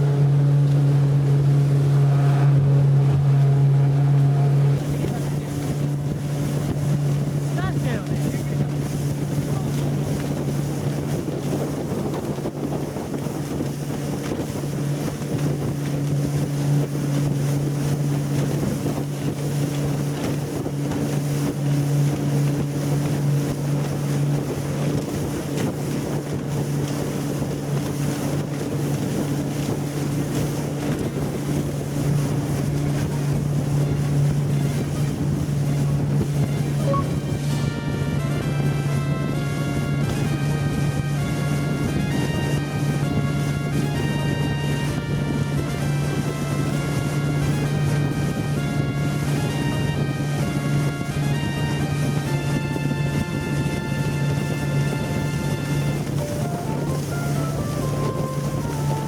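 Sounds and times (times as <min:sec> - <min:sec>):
hull rushing through water: 0:00.0 - 0:59.0
outboard motor humming: 0:00.0 - 0:59.0
wind buffeting microphone: 0:00.0 - 0:59.0.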